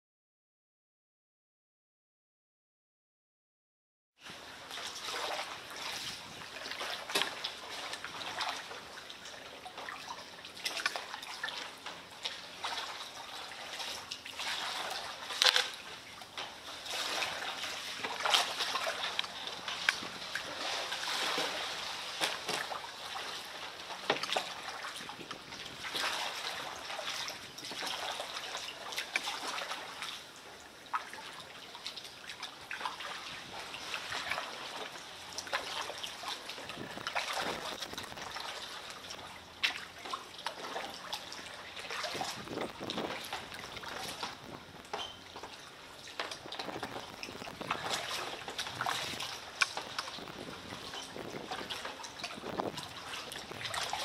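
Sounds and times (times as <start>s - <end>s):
paddle splashes: 4.2s - 54.0s
water dripping off paddle: 4.7s - 30.2s, 33.6s - 54.0s.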